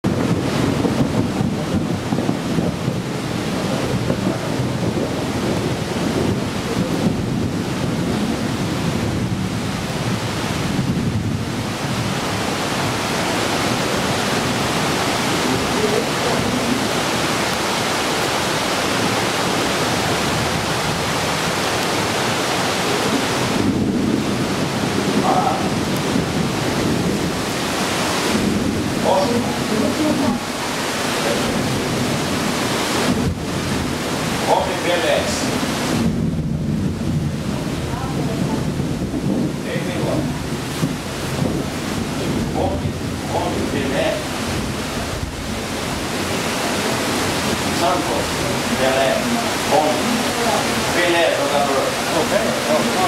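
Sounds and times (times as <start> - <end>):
heavy rain: 0.0 - 53.0
ocean surf: 0.0 - 53.0
wind buffeting microphone: 0.0 - 53.0.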